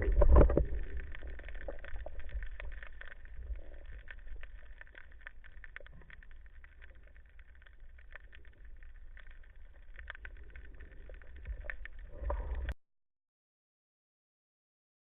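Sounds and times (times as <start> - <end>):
muffled underwater rumble: 0.0 - 12.8.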